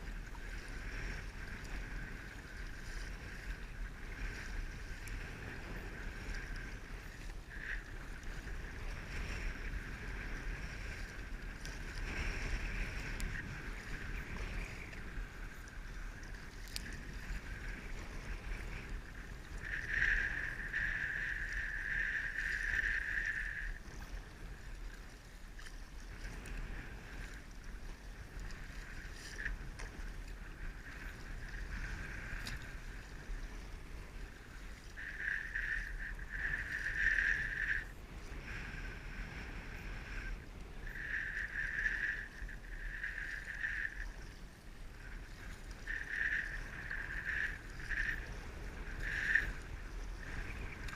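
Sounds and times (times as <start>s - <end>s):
water splashing around kayak: 0.0s - 50.9s
wind rumble on microphone: 0.0s - 50.9s.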